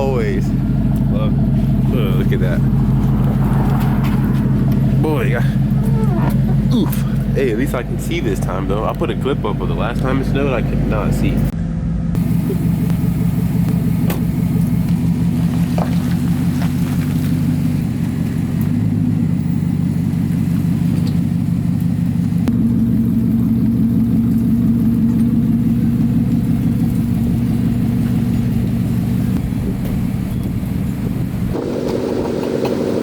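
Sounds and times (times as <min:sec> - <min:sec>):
engine and exhaust droning: 0:00.0 - 0:33.0.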